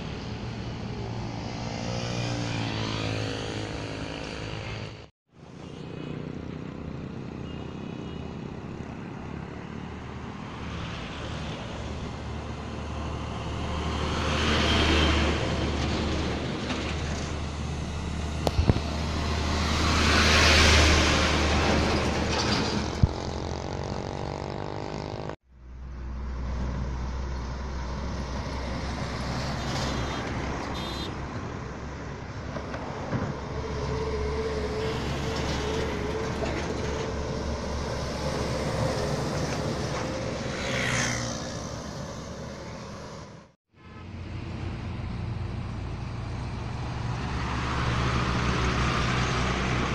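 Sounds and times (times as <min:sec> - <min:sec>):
drone of traffic: 0:00.0 - 0:49.9
tanker trucks driving past: 0:08.3 - 0:49.9.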